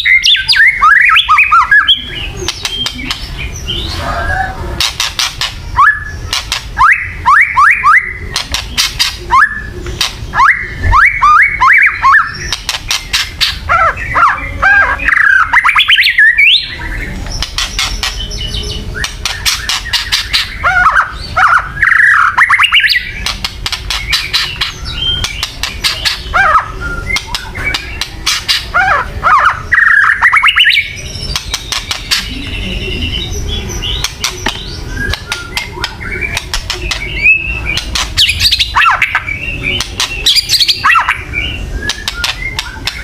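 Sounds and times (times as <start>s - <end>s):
bird whistled phrases: 0.0s - 4.6s, 5.7s - 12.6s, 13.4s - 17.0s, 17.8s - 23.2s, 24.0s - 31.4s, 32.1s - 43.0s.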